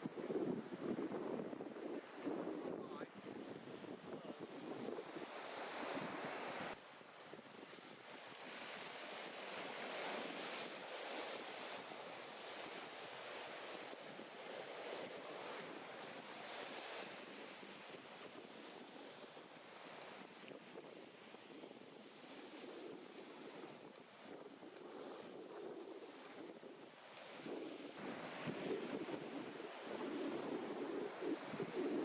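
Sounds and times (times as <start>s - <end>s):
sea waves washing onto shore: 0.0s - 32.0s
wind on microphone: 0.0s - 32.0s.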